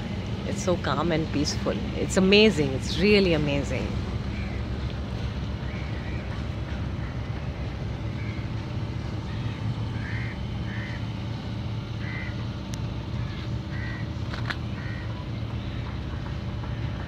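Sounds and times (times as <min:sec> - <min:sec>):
boat engine chugging: 0:00.0 - 0:17.0.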